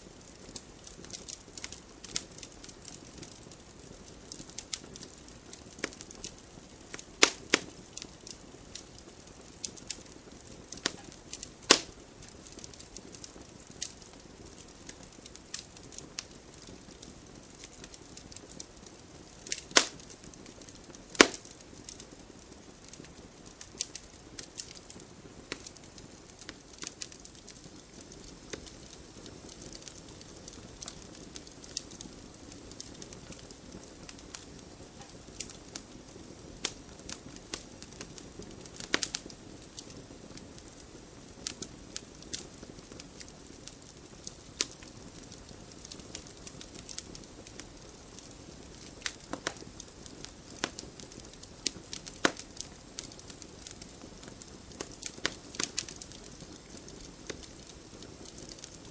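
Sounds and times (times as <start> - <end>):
fire crackling and popping: 0.0 - 58.9
fire hissing: 0.4 - 58.9.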